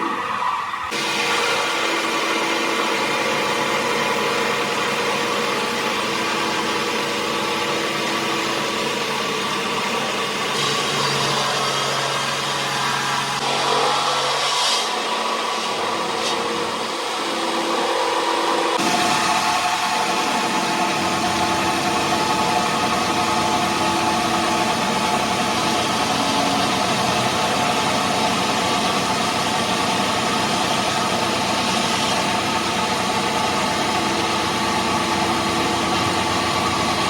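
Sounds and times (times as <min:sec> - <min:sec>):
heavy machinery running: 0:00.0 - 0:37.0.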